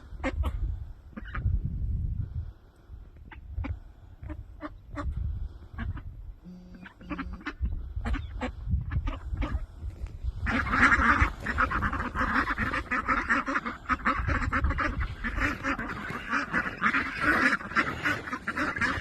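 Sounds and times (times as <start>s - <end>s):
ducks quacking: 0.0s - 1.7s, 3.2s - 19.0s.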